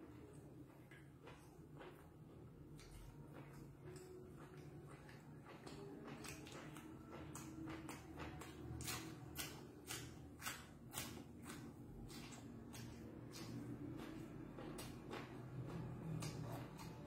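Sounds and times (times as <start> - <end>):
lip smacks and chewing: 0.0 - 17.0.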